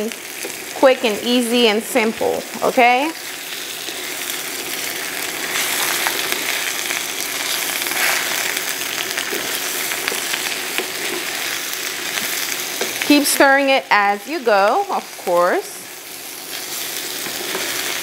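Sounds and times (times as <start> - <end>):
potatoes sizzling in hot oil: 0.0 - 18.0.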